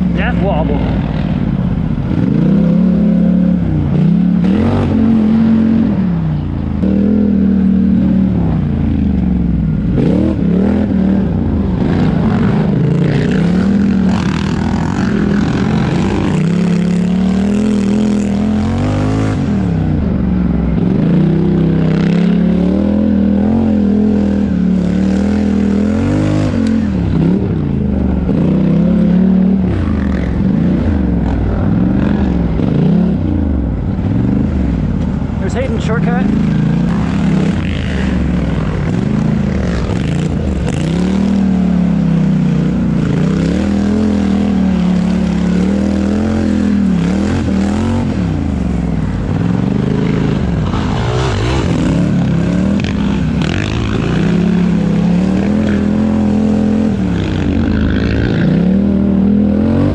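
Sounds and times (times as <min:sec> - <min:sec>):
atv engine under hard throttle: 0:00.0 - 0:59.9.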